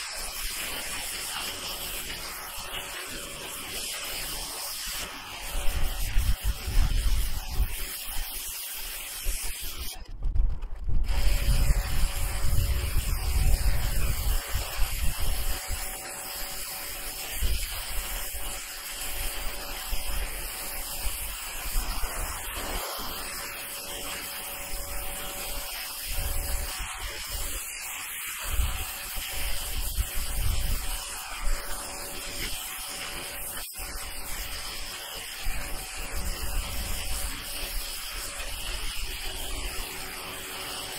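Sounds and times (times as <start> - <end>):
pressure washer jet hissing on shingles: 0.0 - 10.0, 11.0 - 40.9
steady hum: 0.0 - 27.8, 28.4 - 40.9.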